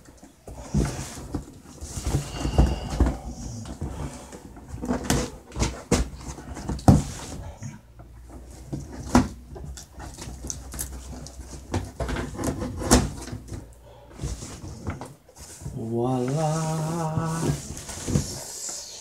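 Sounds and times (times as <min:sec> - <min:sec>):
cardboard scraping and rustling: 0:00.3 - 0:07.6, 0:08.2 - 0:18.9.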